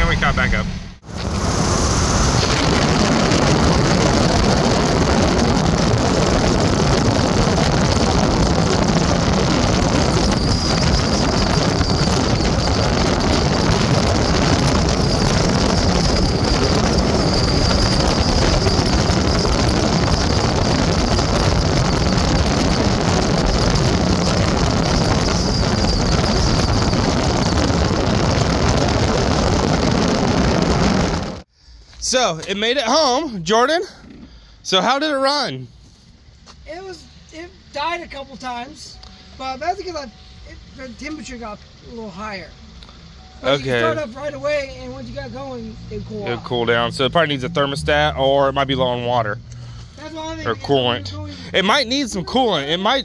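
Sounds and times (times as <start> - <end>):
vehicle road and engine noise: 0.0 - 31.5, 35.4 - 53.0.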